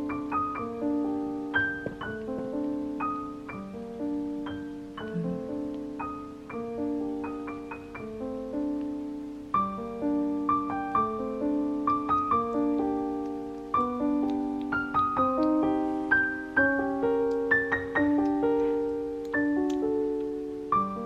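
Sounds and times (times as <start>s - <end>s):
piano melody: 0.0s - 21.0s.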